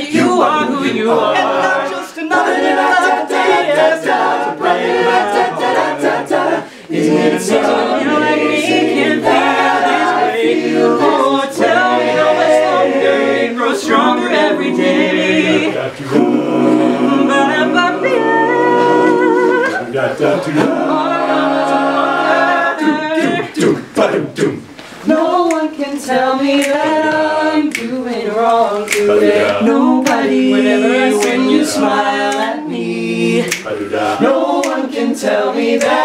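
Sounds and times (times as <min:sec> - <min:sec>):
backing voices singing: 0:00.0 - 0:36.0.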